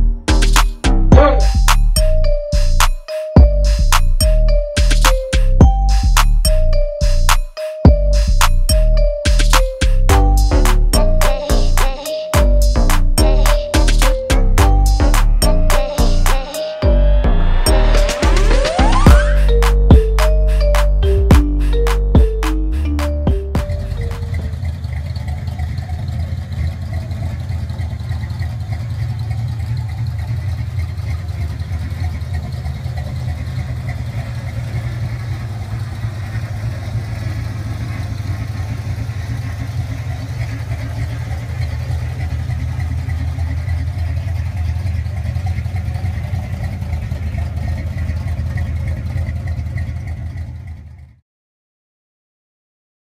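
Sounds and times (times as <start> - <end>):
car engine idling: 0.0 - 51.2.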